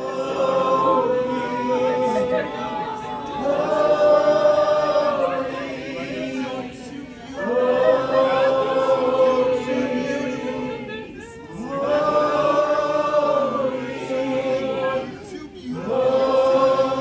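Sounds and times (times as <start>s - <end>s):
congregation singing chant: 0.0s - 17.0s.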